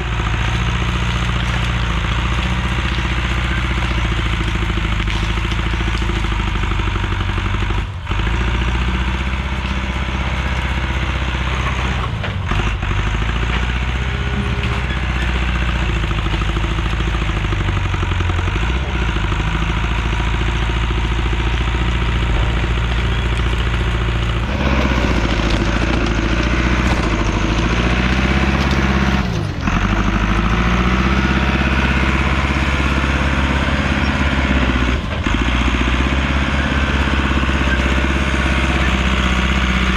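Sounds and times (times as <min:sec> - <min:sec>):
heavy diesel engine under load: 0:00.0 - 0:39.9.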